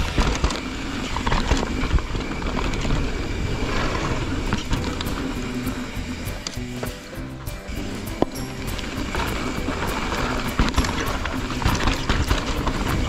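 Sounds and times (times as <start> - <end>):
bike knocking and rattling: 0.0 - 13.0
bike tyres rolling on dirt: 0.0 - 13.0.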